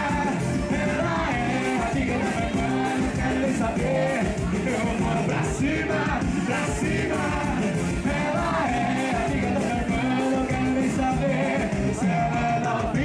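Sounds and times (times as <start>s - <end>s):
backing music with steady beat: 0.0s - 13.0s
man singing into microphone: 0.0s - 13.0s.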